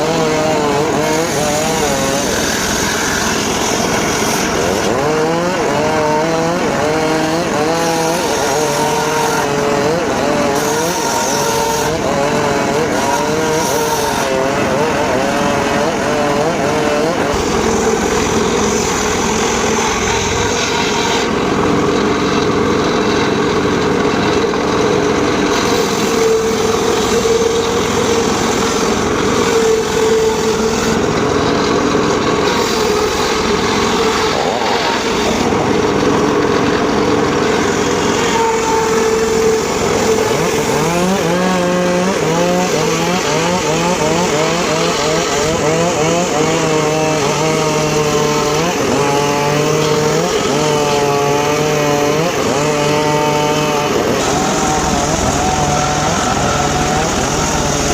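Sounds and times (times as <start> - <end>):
circular saw cutting wood: 0.0 - 57.9.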